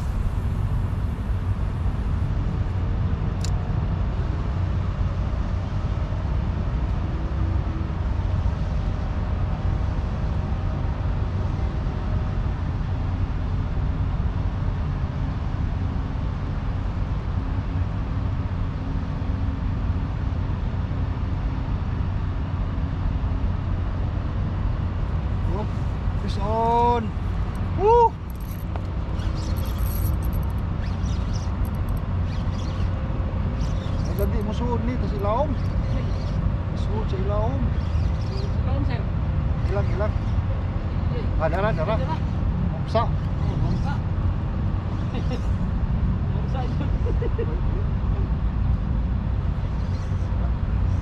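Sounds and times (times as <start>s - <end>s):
distant motors humming: 0.0s - 51.0s
low outdoor rumble: 0.0s - 51.0s.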